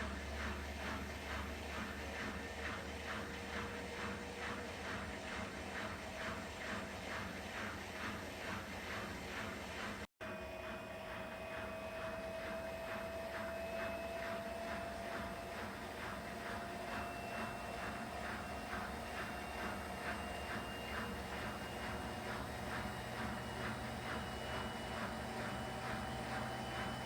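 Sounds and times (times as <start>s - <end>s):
washing machine motor whine: 0.0s - 27.0s.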